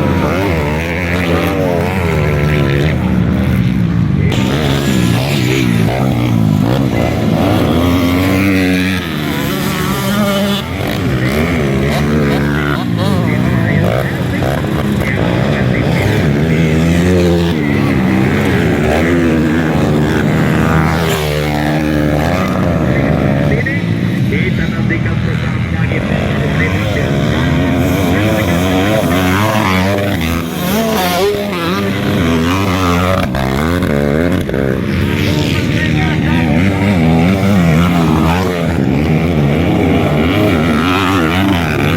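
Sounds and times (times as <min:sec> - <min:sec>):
motocross engines revving: 0:00.0 - 0:41.9.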